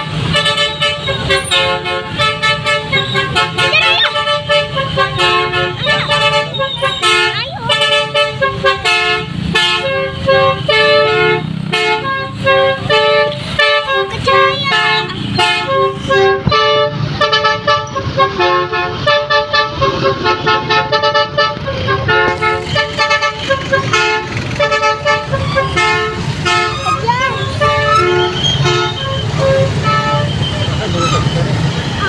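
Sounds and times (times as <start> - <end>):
multi-tone musical bus horn: 0.0 - 32.0.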